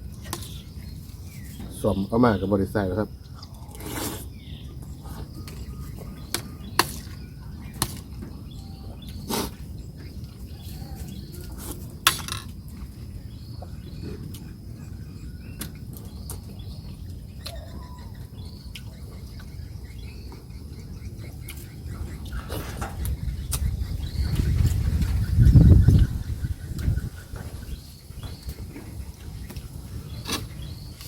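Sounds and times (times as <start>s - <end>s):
faint chirping: 0.0s - 31.0s.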